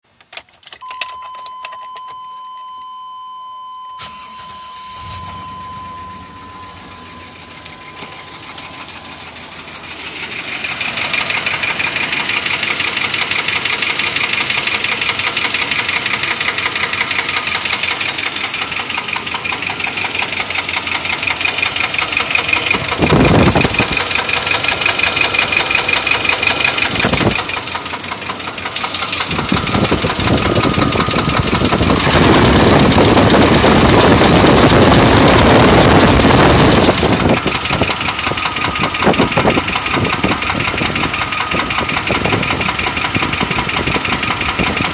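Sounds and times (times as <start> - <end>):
engine knocking: 6.5 - 44.9.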